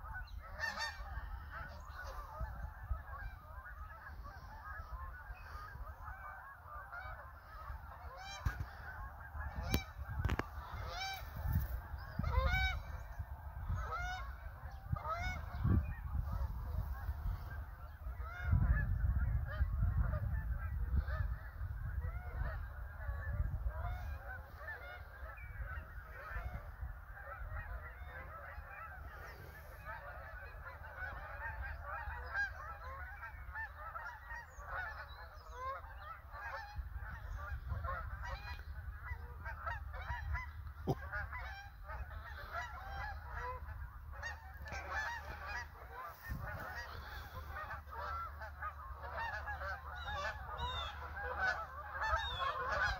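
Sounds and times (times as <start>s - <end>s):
geese honking: 0.0s - 52.9s.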